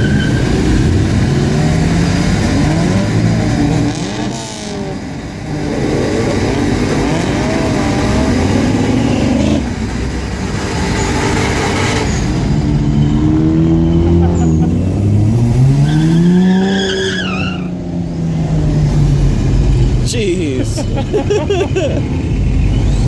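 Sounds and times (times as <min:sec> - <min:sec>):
car engines revving and accelerating: 0:00.0 - 0:23.0.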